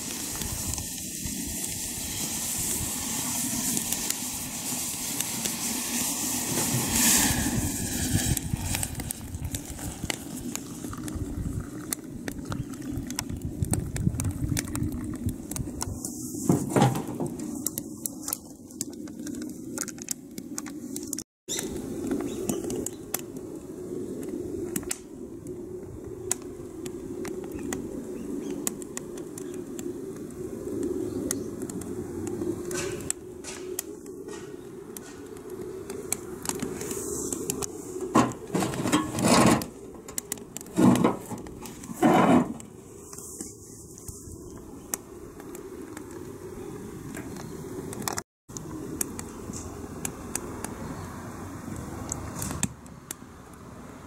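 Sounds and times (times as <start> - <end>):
sharp pops from fire: 0.0 - 23.5, 24.2 - 46.3, 47.1 - 50.8, 51.7 - 53.2
wood fire crackling: 0.0 - 53.9.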